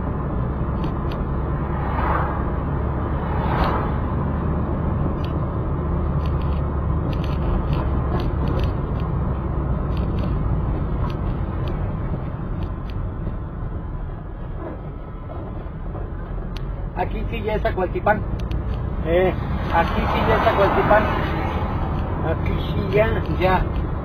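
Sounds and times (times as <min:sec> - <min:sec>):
engine and tyre rumble: 0:00.0 - 0:24.0.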